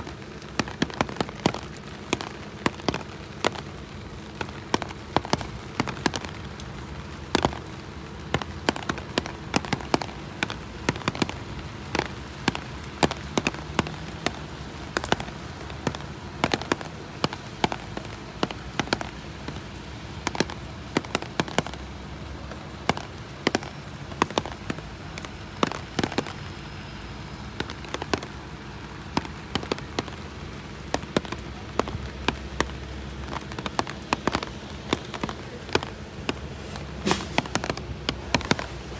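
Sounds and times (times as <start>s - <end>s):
large raindrops tapping: 0.0s - 38.9s
steady rain: 0.0s - 38.9s.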